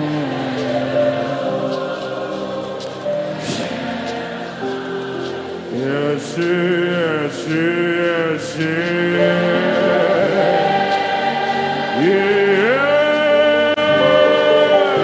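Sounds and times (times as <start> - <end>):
slow gospel worship music: 0.0 - 15.0
wordless voices holding notes: 0.0 - 15.0.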